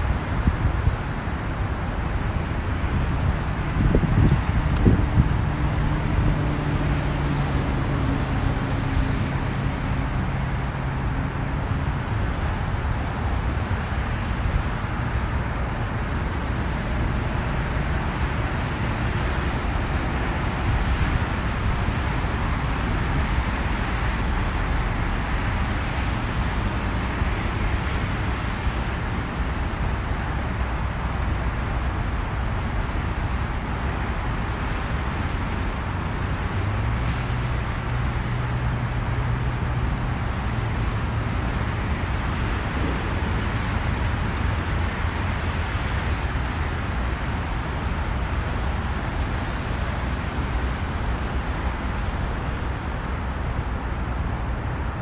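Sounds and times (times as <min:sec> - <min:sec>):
road traffic roar: 0:00.0 - 0:55.0
wind on microphone: 0:00.0 - 0:55.0.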